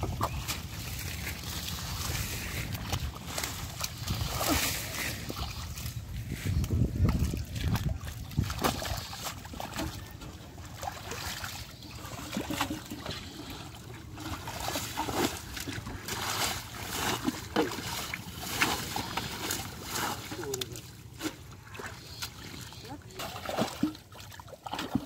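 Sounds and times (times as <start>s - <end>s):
fish thrashing in mud: 0.0s - 10.1s, 12.1s - 22.3s
muddy water splashing: 0.0s - 25.0s
wading steps in water: 0.0s - 25.0s.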